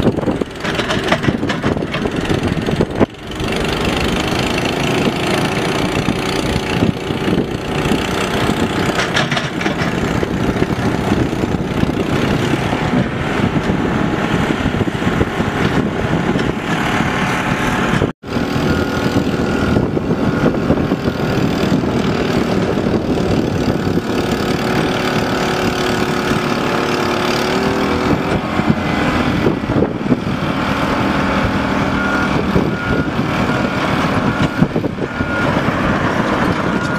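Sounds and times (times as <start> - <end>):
excavator engine running: 0.0 - 36.9.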